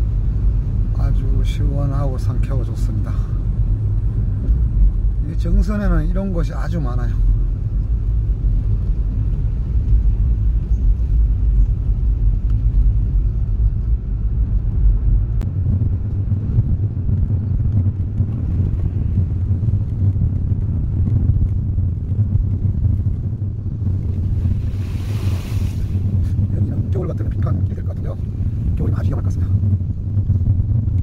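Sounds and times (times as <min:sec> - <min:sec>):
road and engine rumble inside car: 0:00.0 - 0:31.0.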